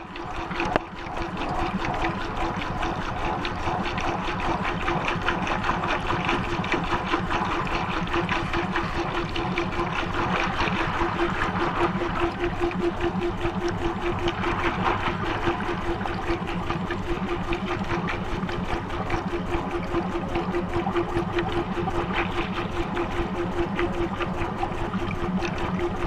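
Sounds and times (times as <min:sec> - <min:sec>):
pulsing motor hum: 0:00.0 - 0:26.0
water sloshing in washing machine: 0:00.0 - 0:26.0.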